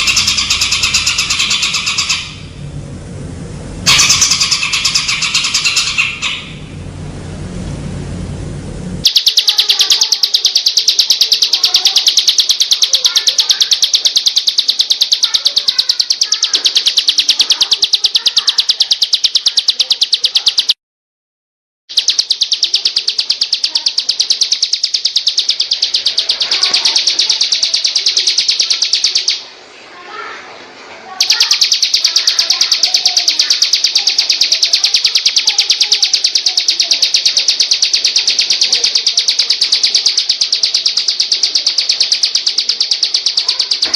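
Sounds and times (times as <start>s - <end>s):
bird's fast buzzing trill: 0.0s - 2.4s, 3.9s - 6.5s, 9.0s - 20.8s, 21.9s - 29.4s, 31.2s - 43.9s
birds chirping: 0.0s - 2.7s, 3.9s - 6.8s, 9.0s - 20.8s, 21.9s - 29.8s, 31.2s - 43.9s.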